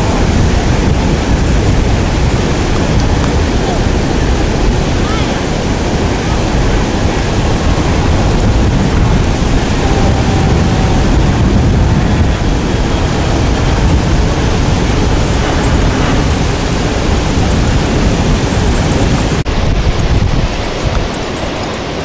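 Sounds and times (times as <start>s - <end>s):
ocean surf: 0.0s - 22.0s
wind buffeting microphone: 0.0s - 22.0s.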